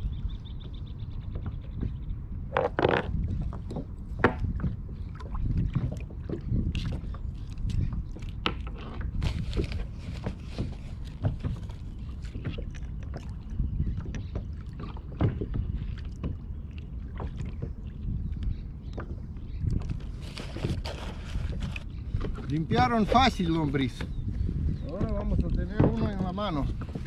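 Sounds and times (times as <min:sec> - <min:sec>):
water lapping against kayak hull: 0:00.0 - 0:27.0.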